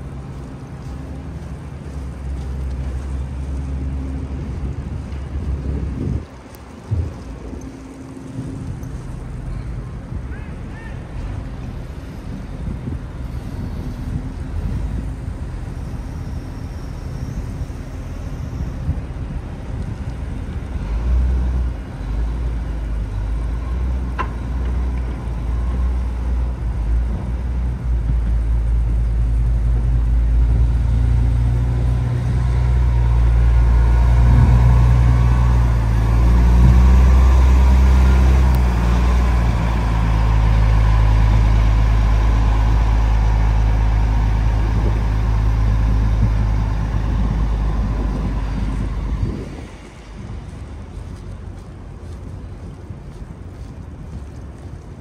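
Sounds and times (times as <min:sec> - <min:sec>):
diesel engine driving past: 0:00.0 - 0:55.0.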